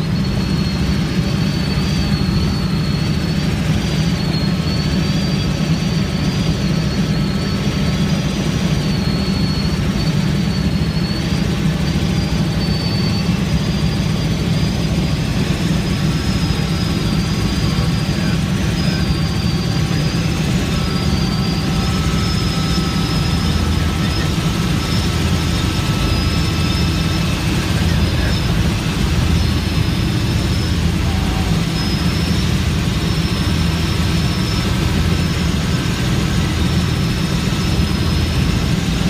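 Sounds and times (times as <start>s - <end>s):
helicopter high whine: 0.0s - 39.0s
helicopter rotor and engine drone: 0.0s - 39.0s.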